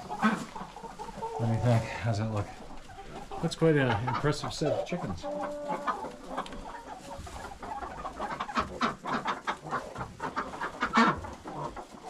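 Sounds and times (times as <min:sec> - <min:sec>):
chickens clucking and murmuring: 0:00.0 - 0:12.0.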